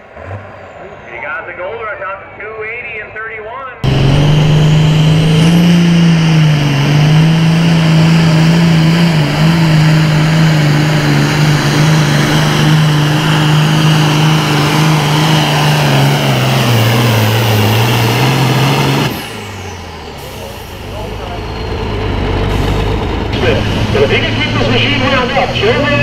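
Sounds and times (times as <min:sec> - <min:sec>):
tractor diesel engine under load: 0:03.6 - 0:26.0.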